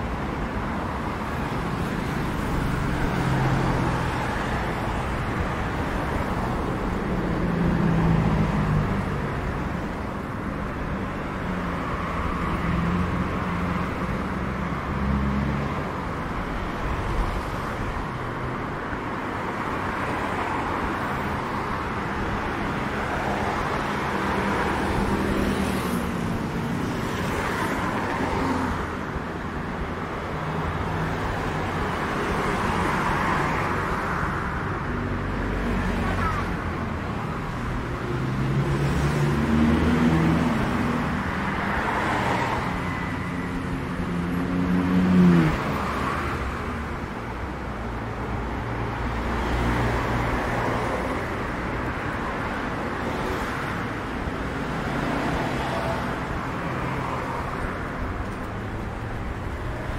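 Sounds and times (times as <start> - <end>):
car engines passing: 0.0 - 59.9
road noise: 0.0 - 59.9.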